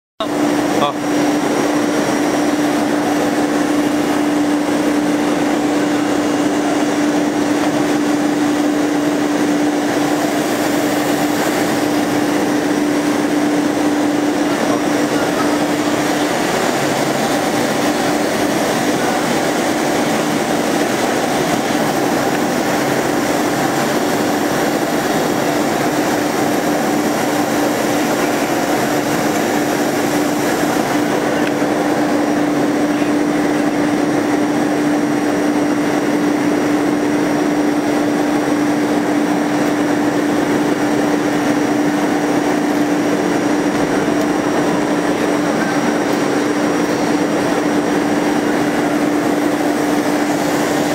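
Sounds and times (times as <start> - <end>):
cnc router spindle hum: 0.2 - 50.9.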